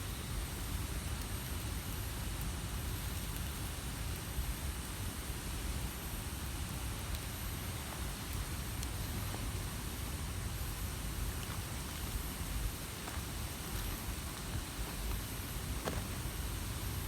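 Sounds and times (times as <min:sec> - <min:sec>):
campfire burning: 0:00.1 - 0:17.0.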